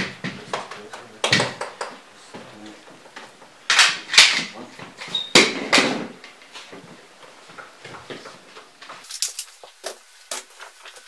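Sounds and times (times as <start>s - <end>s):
skis clattering and scraping: 0.0s - 11.0s.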